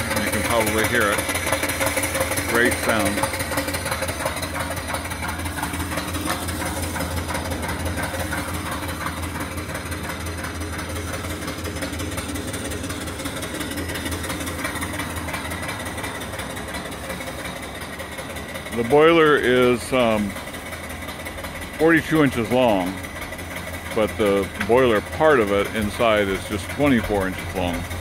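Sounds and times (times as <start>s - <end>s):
steam engine exhaust puffing: 0.0s - 28.0s.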